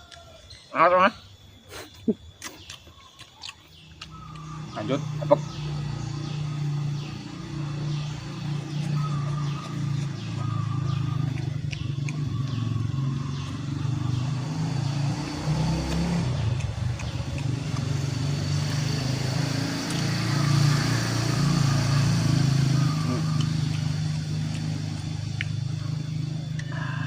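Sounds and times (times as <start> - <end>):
engine running: 4.0 - 27.0.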